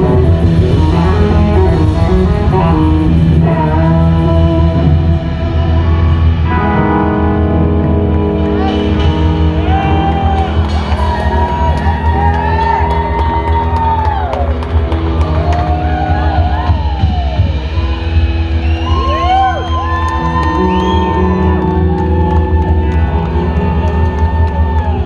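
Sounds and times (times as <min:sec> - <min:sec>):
bass and drums: 0:00.0 - 0:25.0
electric slide guitar melody: 0:00.0 - 0:25.0.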